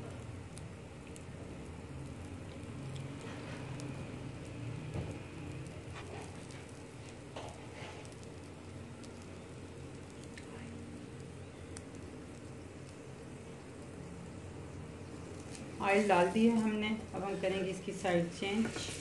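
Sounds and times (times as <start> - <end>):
flatbread sizzling on a hot griddle: 0.0 - 19.0
low steady hum: 0.0 - 19.0
small crackles and pops: 0.0 - 19.0.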